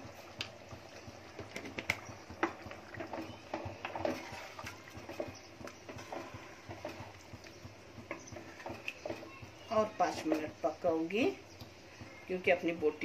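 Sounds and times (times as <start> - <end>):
spoon stirring stew in a pot: 0.1 - 10.6.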